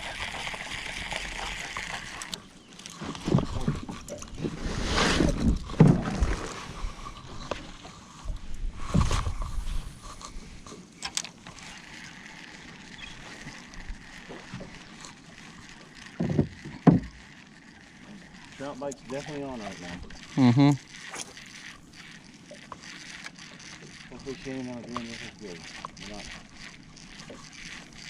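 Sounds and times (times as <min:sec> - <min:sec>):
water sloshing against boat hull: 0:01.4 - 0:11.8, 0:12.6 - 0:28.0.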